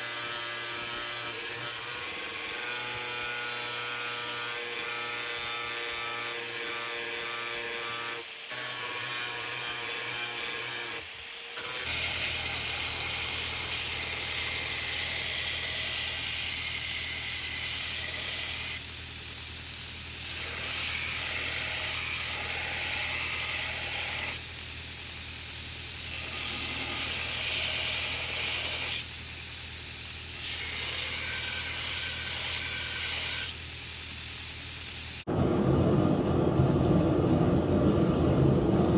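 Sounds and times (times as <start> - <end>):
grinding hiss on steel: 0.0 - 35.3.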